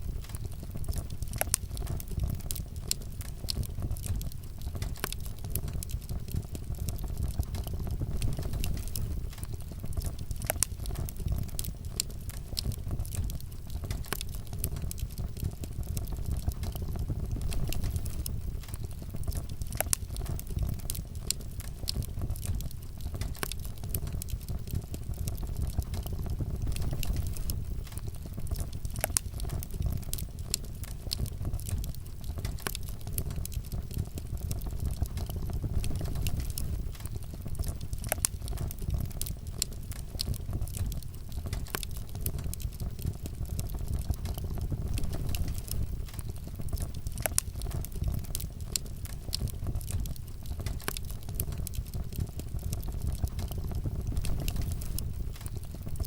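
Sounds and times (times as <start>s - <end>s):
sharp pops and snaps: 0.0s - 56.0s
wood fire crackling: 0.0s - 56.0s.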